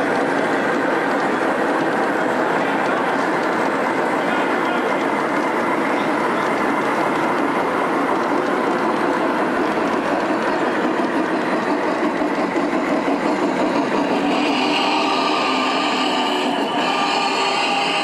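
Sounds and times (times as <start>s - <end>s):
model train wheels rumbling on rail: 0.0s - 18.0s.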